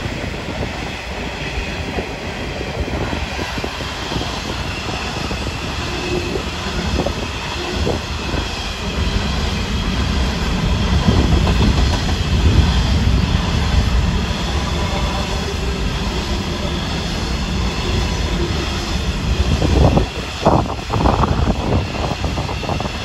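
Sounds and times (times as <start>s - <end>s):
freight train rolling past: 0.0s - 23.0s
steel wheels clattering on rails: 0.0s - 23.0s.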